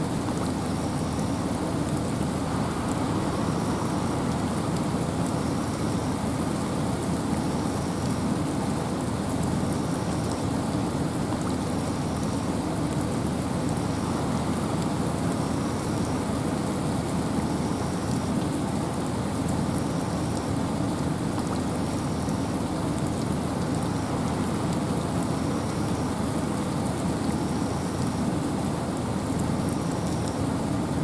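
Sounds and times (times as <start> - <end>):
steady rain with wind: 0.0 - 31.0.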